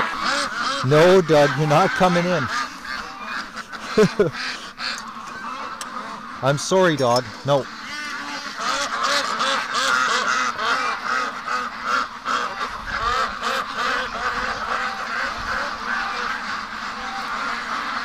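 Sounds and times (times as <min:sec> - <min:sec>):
flock of ducks quacking: 0:00.0 - 0:18.0.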